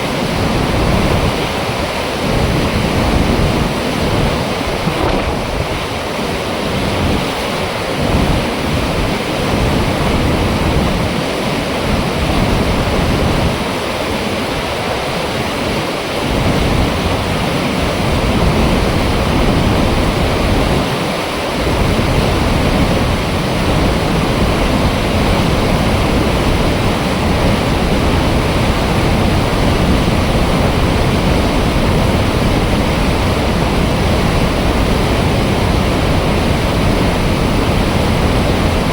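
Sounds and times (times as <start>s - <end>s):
water rushing through dam gate: 0.0s - 38.9s.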